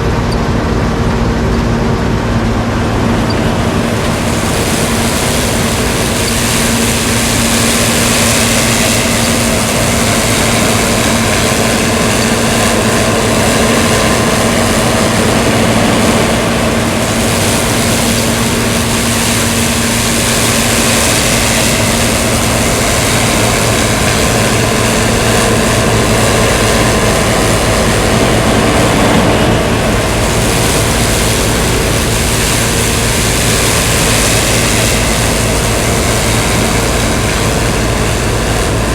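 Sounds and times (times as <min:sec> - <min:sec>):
diesel engine under load: 0:00.0 - 0:38.9
threshing machinery running: 0:00.0 - 0:38.9.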